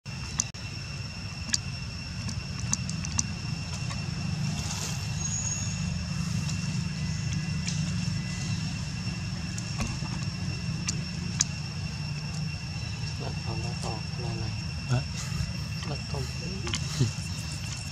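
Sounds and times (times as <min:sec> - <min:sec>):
steady low rumble: 0:00.1 - 0:17.9.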